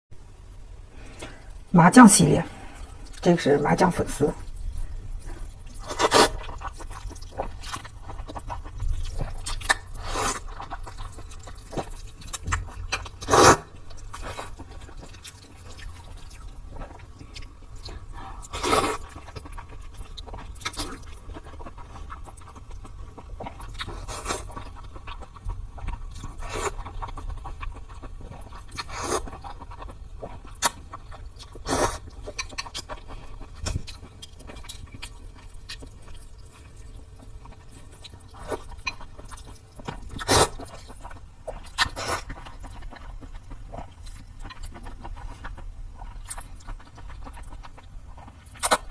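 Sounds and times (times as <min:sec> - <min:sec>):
chewing: 0:02.5 - 0:03.4, 0:04.3 - 0:48.9.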